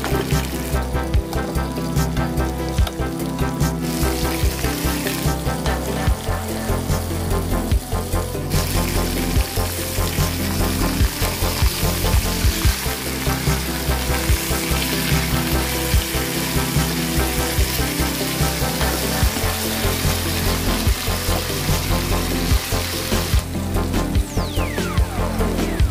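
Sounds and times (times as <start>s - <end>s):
meat sizzling in a pan: 0.0s - 24.0s
background music: 0.0s - 25.9s.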